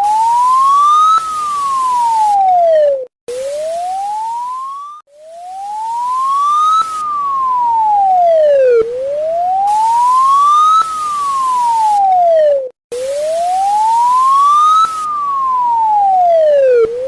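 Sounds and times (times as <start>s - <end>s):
electronic alarm siren wailing: 0.0s - 17.0s.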